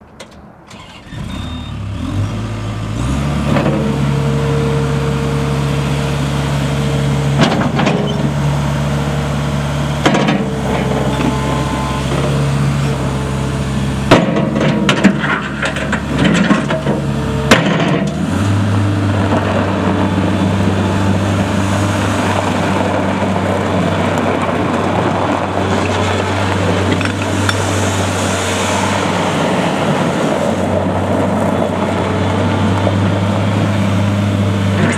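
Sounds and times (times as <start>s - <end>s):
diesel engine starting and running: 0.0s - 34.9s.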